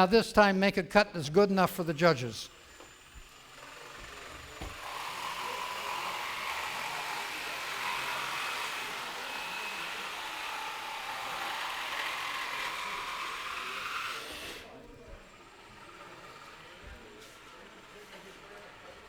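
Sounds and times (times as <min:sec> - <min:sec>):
electric jigsaw cutting board: 0:02.5 - 0:19.0.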